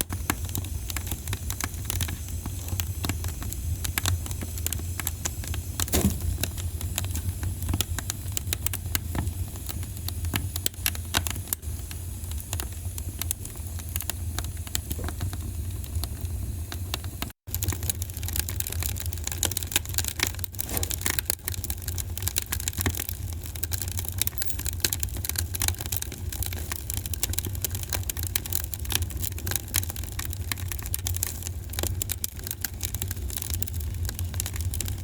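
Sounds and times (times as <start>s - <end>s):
fireplace fire crackling: 0.0s - 35.0s
low fire rumble: 0.0s - 35.0s.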